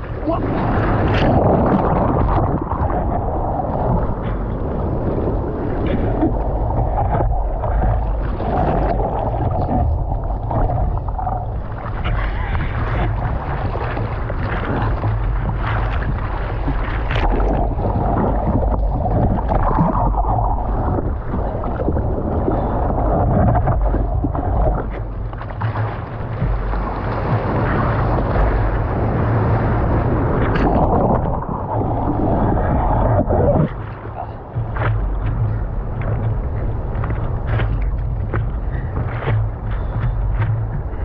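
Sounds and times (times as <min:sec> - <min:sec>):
ocean water rushing and sloshing: 0:00.0 - 0:41.0
wind buffeting microphone: 0:00.0 - 0:41.0.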